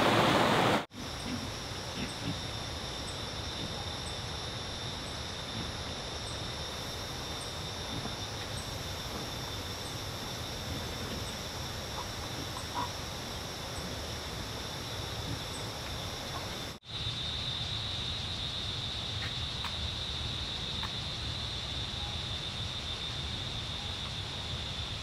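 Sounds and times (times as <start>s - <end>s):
high insect drone: 0.1s - 25.0s.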